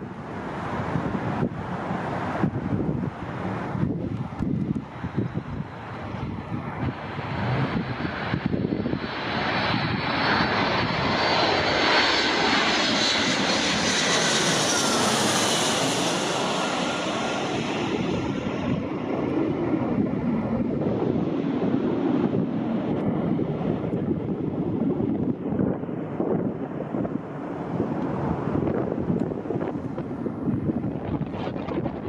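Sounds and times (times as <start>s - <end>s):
jet airliner passing overhead: 0.0s - 32.0s.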